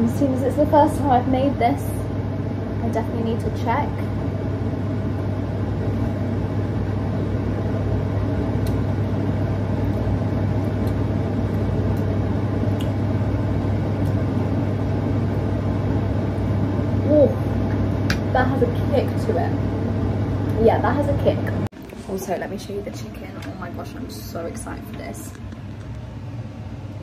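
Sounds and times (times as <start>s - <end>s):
appliance fan whirring: 0.0s - 27.0s.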